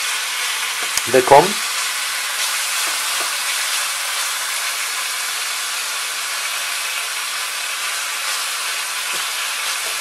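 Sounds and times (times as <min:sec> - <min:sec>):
bacon sizzling in a frying pan: 0:00.0 - 0:10.0.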